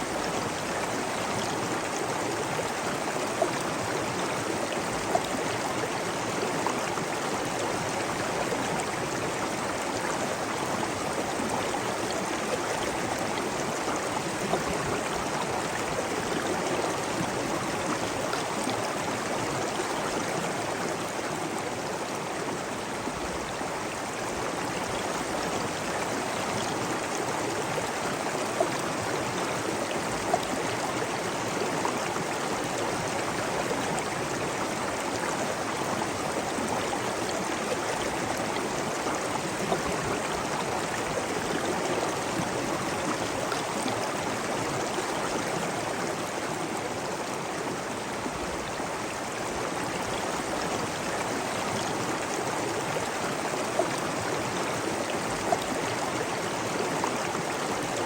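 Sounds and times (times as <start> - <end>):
water babbling: 0.0 - 58.0.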